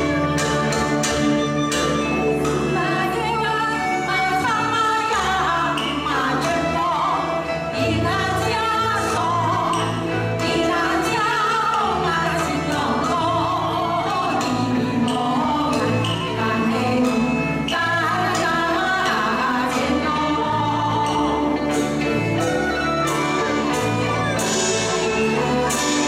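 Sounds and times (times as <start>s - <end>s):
women singing with vibrato: 2.6s - 24.2s.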